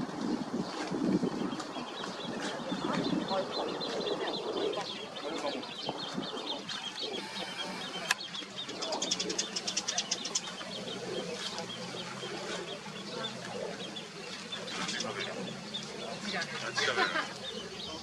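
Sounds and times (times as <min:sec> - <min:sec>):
ducklings peeping: 0:00.8 - 0:18.0.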